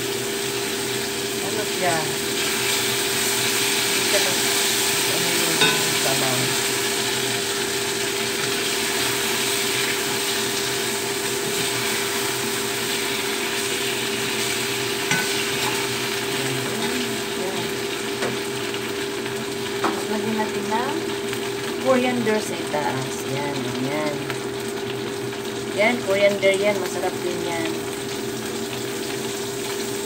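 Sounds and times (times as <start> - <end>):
tofu sizzling in oil: 0.0 - 30.0.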